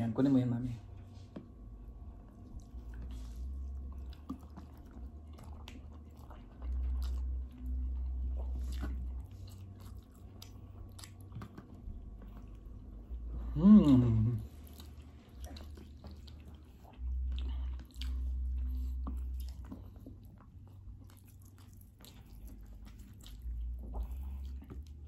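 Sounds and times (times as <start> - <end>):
low rumble: 0.6 - 25.0
chewing and biting: 1.3 - 13.3, 13.9 - 25.0.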